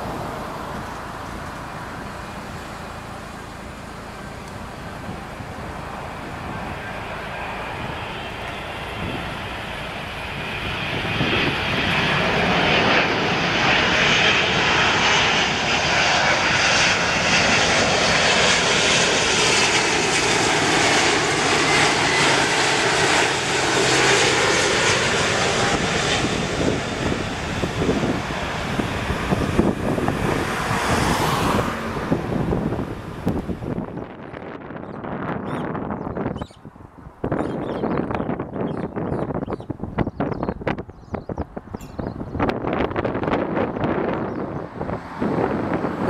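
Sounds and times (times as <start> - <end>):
jetliner flying low: 0.0 - 46.0.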